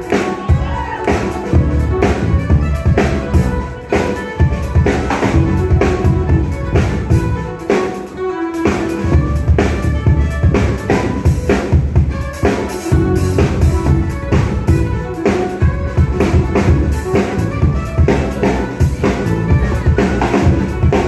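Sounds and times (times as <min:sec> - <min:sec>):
drum kit beat: 0:00.0 - 0:21.0
fiddle: 0:00.0 - 0:21.0.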